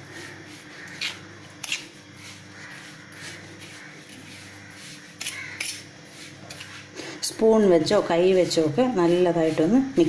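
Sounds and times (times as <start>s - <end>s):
hand mixing on steel plate: 0.0s - 10.0s.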